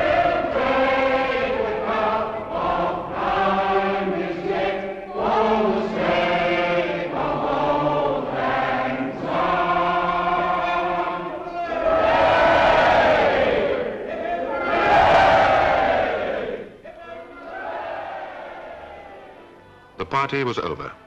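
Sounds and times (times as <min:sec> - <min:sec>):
crowd singing together: 0:00.0 - 0:19.7.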